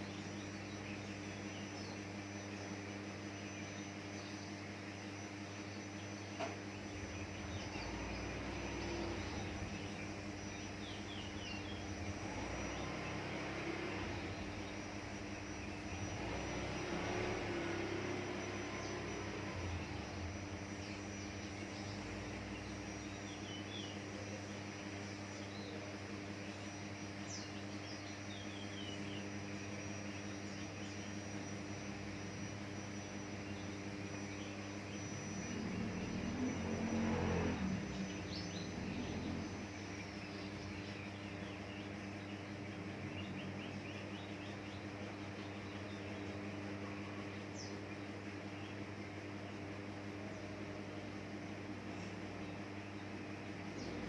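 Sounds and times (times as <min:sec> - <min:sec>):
bird chirping: 0:00.0 - 0:54.0
steady background hum: 0:00.0 - 0:54.0.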